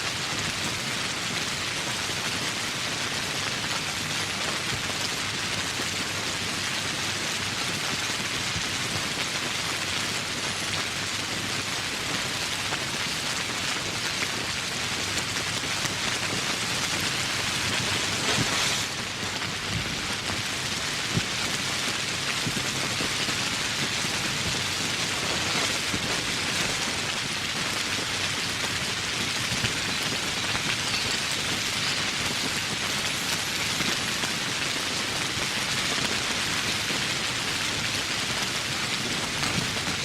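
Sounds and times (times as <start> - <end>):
steady rain patter: 0.0 - 40.0.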